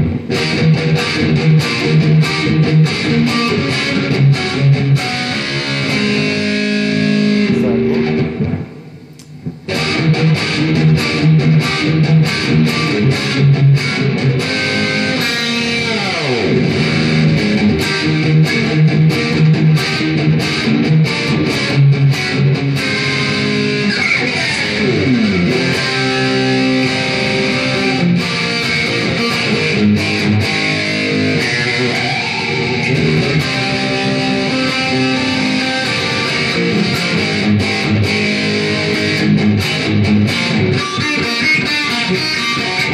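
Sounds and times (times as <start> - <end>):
guitar tremolo pitch dive: 0.0 - 9.1, 9.7 - 42.9
electric guitar riffs with reverb: 0.0 - 42.9.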